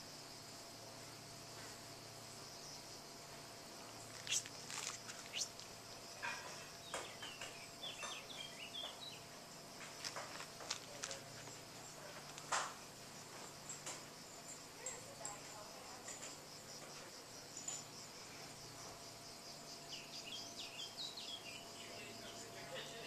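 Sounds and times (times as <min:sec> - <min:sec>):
insects chirring drone: 0:00.0 - 0:23.0.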